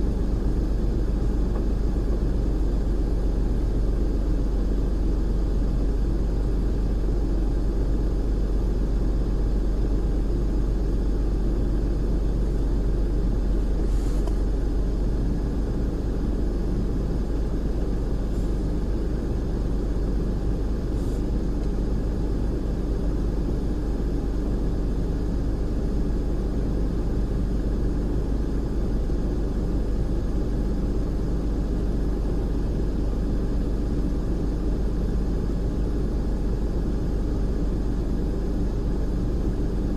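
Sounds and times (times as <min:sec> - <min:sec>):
low mechanical rumble: 0:00.0 - 0:39.9.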